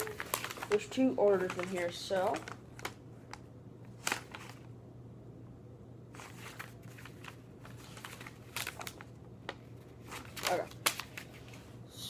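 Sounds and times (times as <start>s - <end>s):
paper rustling and crinkling: 0.0s - 4.7s, 6.1s - 11.8s.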